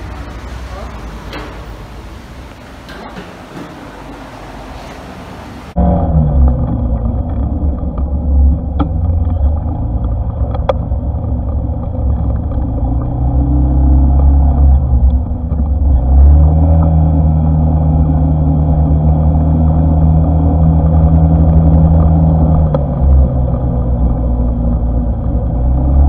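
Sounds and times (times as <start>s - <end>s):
scooter engine: 0.0s - 26.0s.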